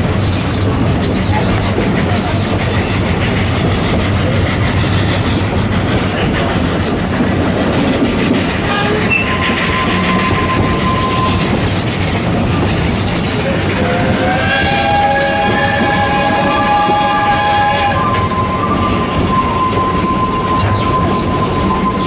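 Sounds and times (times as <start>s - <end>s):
train wheels clickety-clack on rails: 0.0s - 22.0s.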